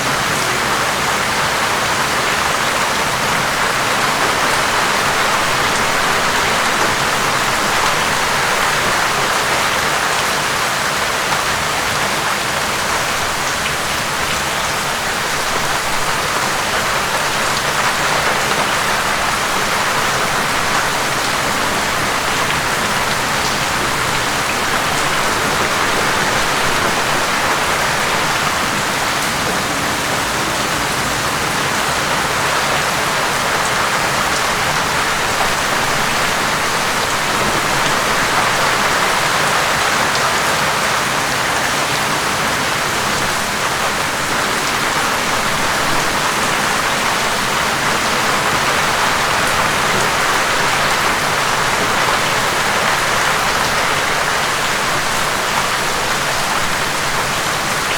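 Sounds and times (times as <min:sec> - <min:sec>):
heavy rain on a surface: 0:00.0 - 0:57.9.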